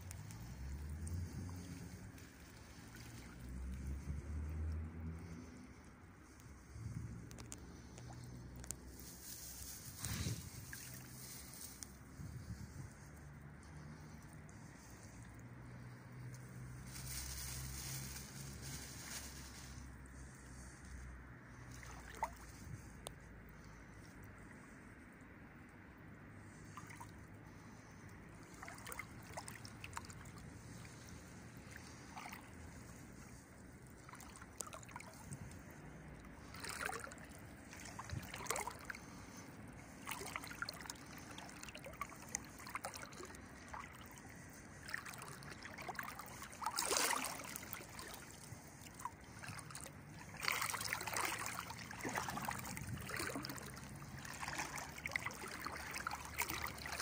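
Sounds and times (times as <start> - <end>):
wading through shallow water: 0.0 - 57.0.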